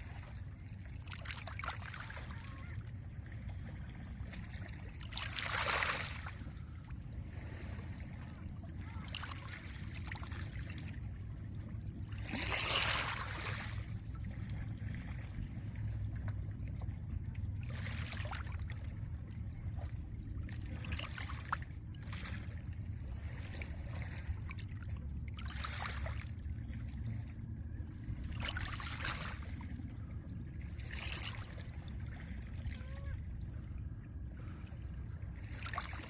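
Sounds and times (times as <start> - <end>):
low rumble: 6.0 - 36.0.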